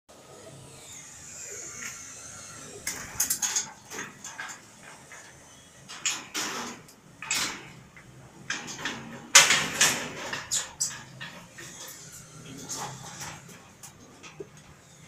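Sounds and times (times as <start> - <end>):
wire cage door rattling: 1.6 - 15.0.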